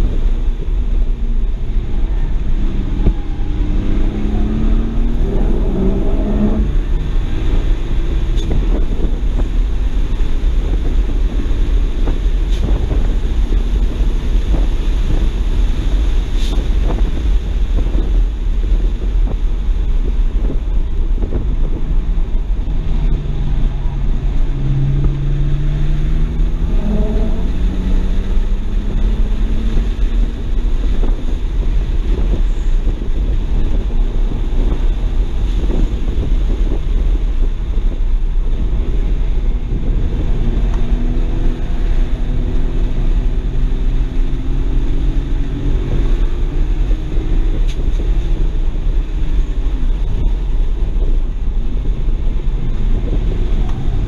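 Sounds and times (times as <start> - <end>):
car engine revving: 0.0 - 54.0
wind and road noise rumble: 0.0 - 54.0.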